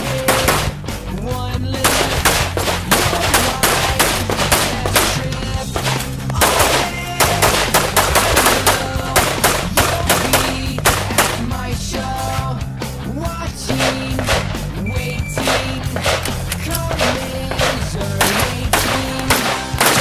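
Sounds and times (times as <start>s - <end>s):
rapid rifle shots: 0.0s - 1.0s, 1.8s - 11.9s, 13.6s - 14.7s, 15.4s - 20.0s
background music: 0.0s - 20.0s.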